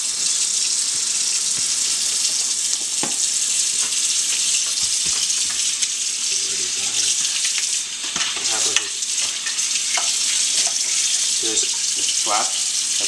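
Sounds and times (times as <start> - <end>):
faucet running into sink: 0.0 - 13.0.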